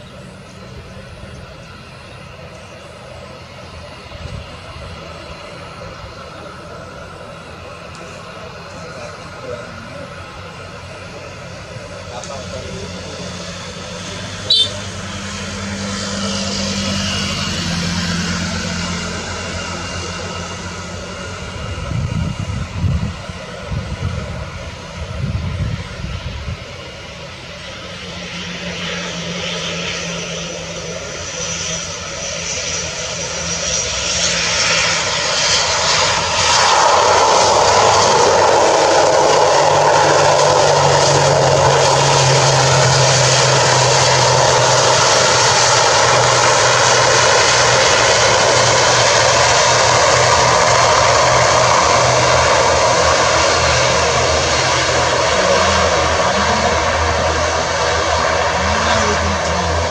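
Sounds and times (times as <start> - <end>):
turboprop engines and propellers: 0.0 - 59.9.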